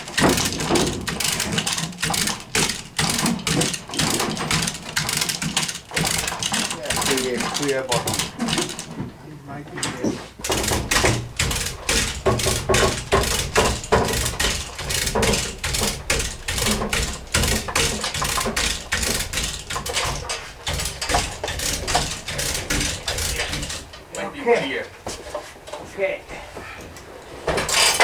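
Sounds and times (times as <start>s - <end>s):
hoist mechanical clicks: 0.0s - 8.9s, 10.4s - 24.2s.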